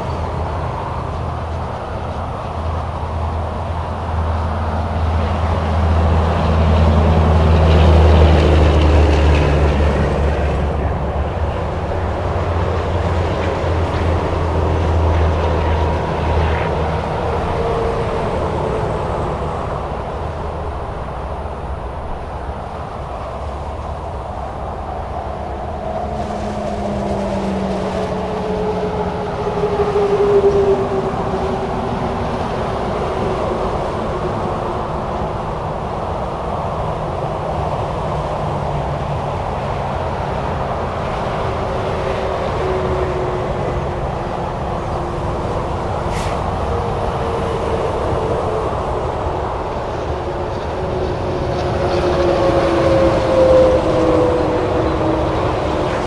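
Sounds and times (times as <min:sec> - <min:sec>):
highway traffic passing: 0:00.0 - 0:56.0
passing vehicles whining: 0:00.0 - 0:56.0
truck engine rumble: 0:00.0 - 0:56.0.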